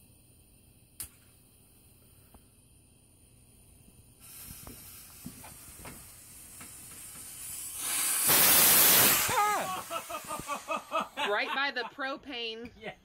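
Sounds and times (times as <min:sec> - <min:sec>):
rocket motor rushing hiss: 0:00.0 - 0:11.3.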